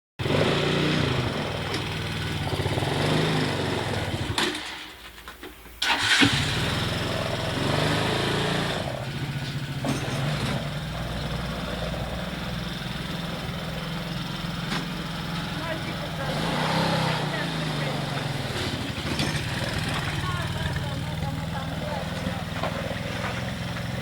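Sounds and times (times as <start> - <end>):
engine running and idling: 0.2 - 4.4, 5.8 - 24.0.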